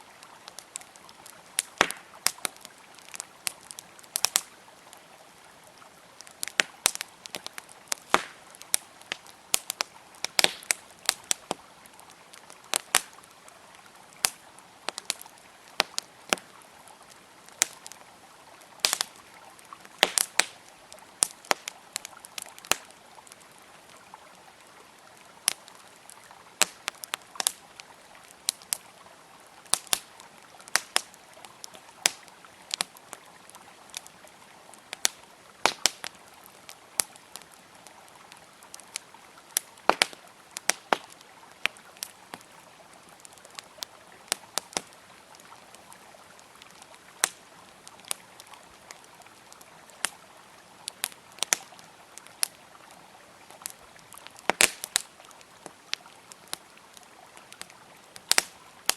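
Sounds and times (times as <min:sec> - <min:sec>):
river flowing: 0:00.0 - 0:58.9
wood fire crackling and popping: 0:00.1 - 0:58.9.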